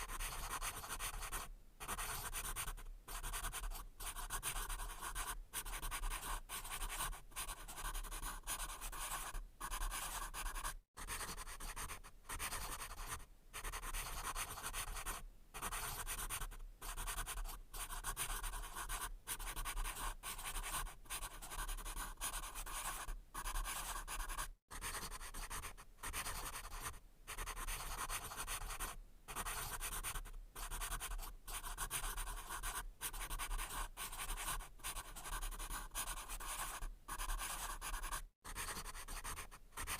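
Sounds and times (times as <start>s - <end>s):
pencil writing on paper: 0.0s - 39.9s.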